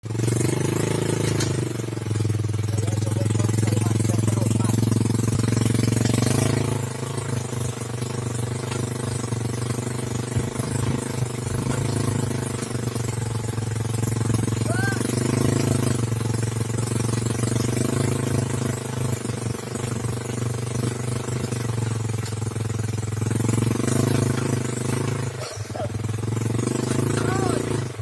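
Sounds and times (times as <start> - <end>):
winch engine running: 0.0 - 28.0.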